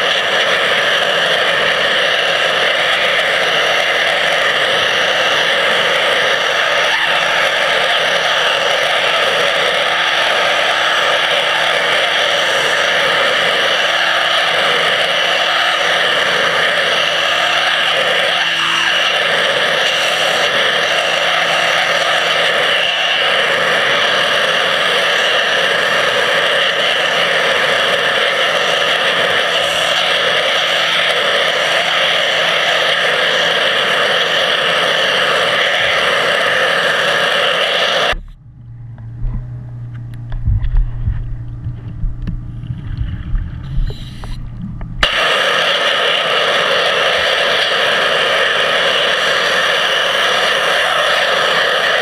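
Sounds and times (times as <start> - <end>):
low hum: 0.0 - 52.0
underwater pressure-washer jet: 0.0 - 52.0.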